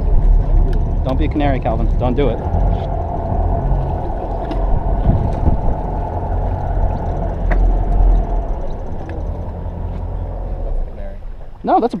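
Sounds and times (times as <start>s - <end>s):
boat engine rumble: 0.0s - 12.0s
wind: 0.0s - 12.0s.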